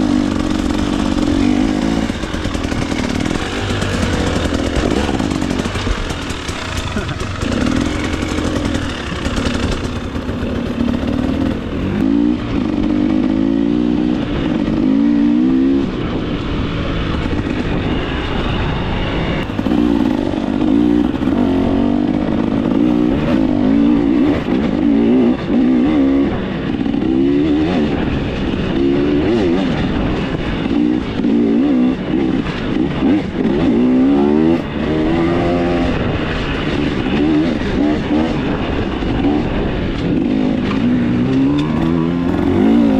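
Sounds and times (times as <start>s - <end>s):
dirt bike engine revving: 0.0s - 18.5s, 19.4s - 42.9s.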